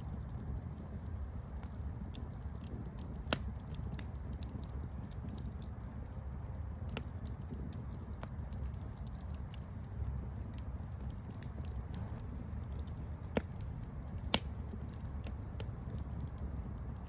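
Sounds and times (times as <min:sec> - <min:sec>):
campfire flames rumbling: 0:00.0 - 0:17.0
fire crackling and popping: 0:00.0 - 0:17.0.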